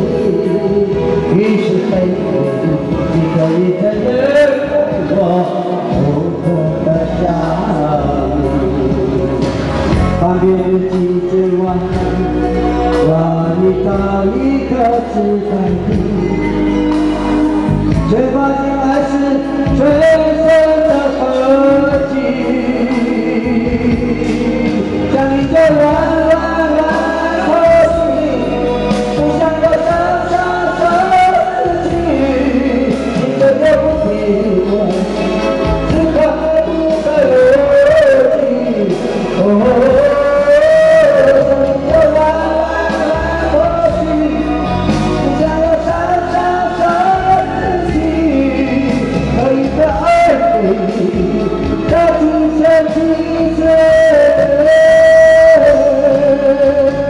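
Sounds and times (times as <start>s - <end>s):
karaoke backing track with beat: 0.0s - 57.0s
man singing into microphone: 0.0s - 57.0s.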